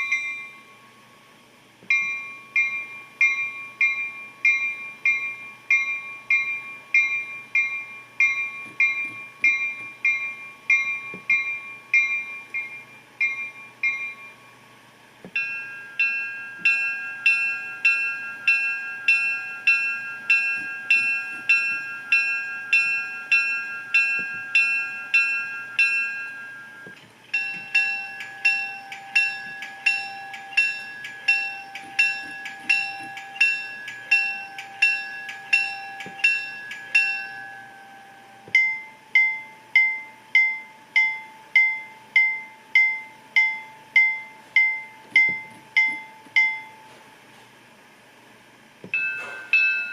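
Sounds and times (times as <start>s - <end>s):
locomotive bell ringing: 0.0s - 1.2s, 1.9s - 47.0s, 49.0s - 49.9s.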